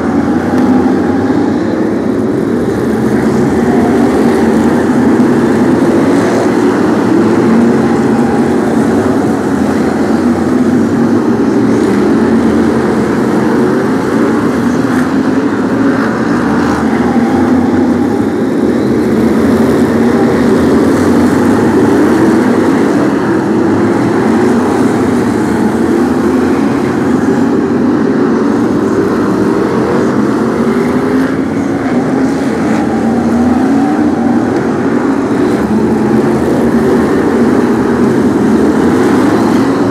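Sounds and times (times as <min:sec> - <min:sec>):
racing car engines: 0:00.0 - 0:39.9.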